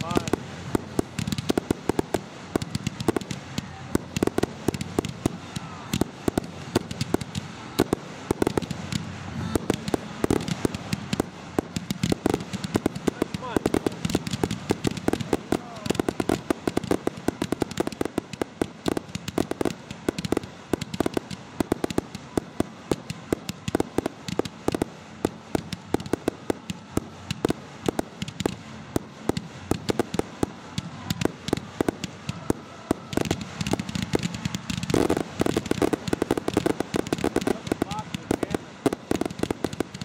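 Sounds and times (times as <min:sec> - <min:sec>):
fireworks launches and bursts: 0:00.0 - 0:40.0.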